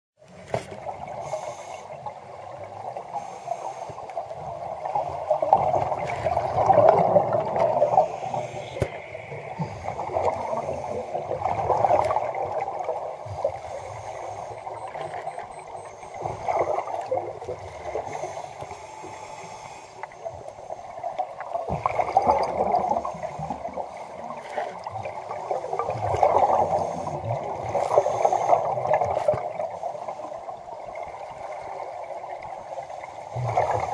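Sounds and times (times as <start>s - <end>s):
underwater breath bubbling: 1.0s - 2.1s, 3.0s - 30.5s.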